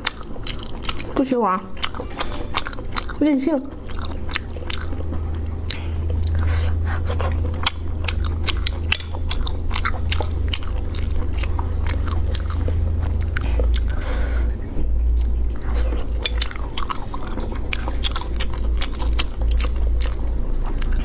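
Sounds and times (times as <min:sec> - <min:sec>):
close chewing and lip smacks: 0:00.0 - 0:21.0
steady low hum: 0:00.0 - 0:21.0.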